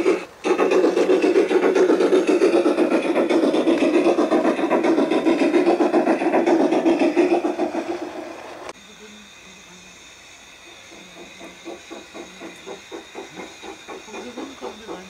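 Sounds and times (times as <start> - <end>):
model train steam chuffing: 0.0 - 15.0.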